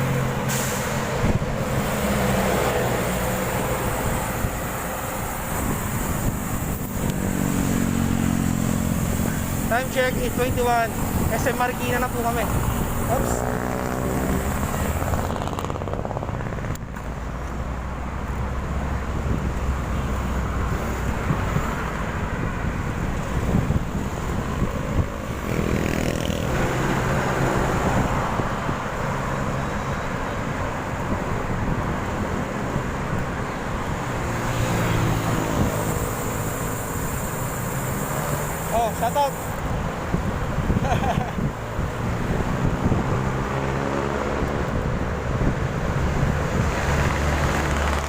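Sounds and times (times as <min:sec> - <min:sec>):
rush of road noise: 0:00.0 - 0:48.0
vehicles passing: 0:00.0 - 0:48.0.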